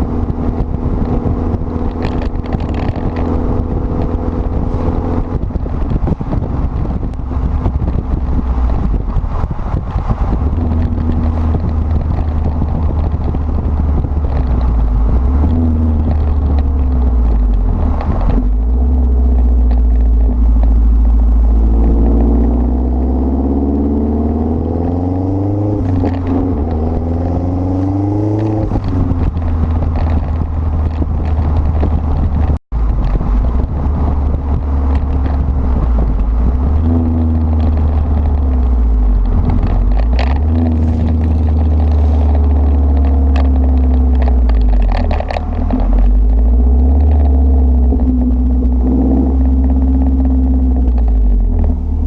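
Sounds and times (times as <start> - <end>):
car exhaust under acceleration: 0.0 - 52.0.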